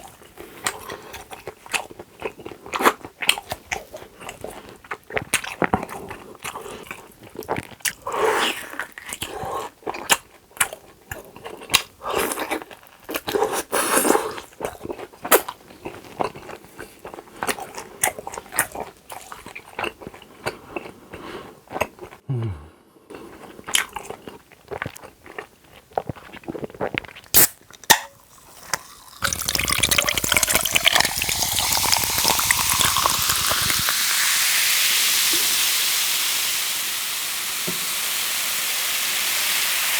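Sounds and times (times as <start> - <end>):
wet chewing and mouth clicks: 0.0 - 22.2, 23.1 - 34.0.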